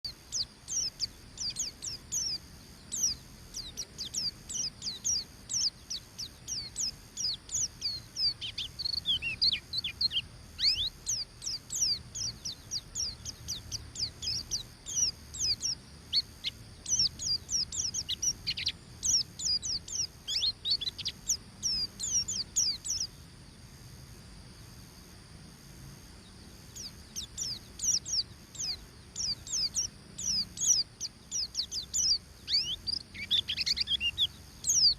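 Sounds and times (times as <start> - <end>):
bird twittering song: 0.0 - 23.2, 26.2 - 34.9.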